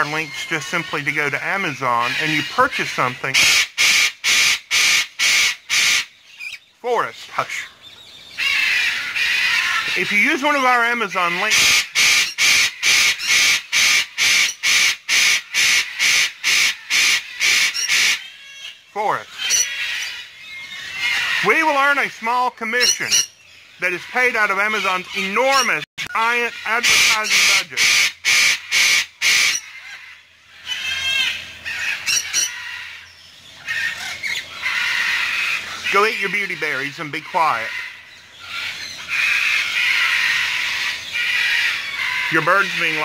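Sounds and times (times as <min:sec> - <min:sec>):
parrot screeching harshly: 0:00.0 - 0:06.6, 0:08.4 - 0:43.0.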